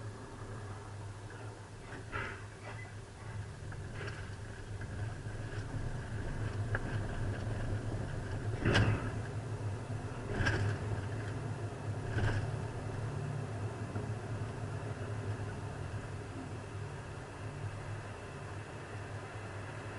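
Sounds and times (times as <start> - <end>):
low engine hum: 0.0 - 19.9.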